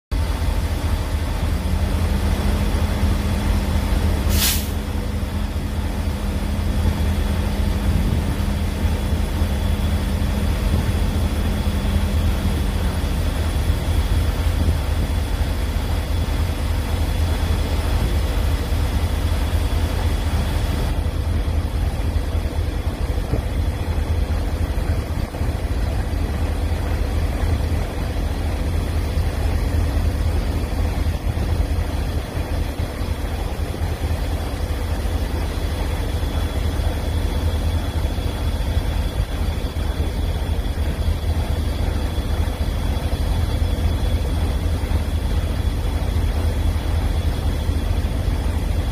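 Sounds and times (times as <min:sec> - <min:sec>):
ship machinery low drone: 0:00.1 - 0:48.9
faint steady whine: 0:00.2 - 0:48.9.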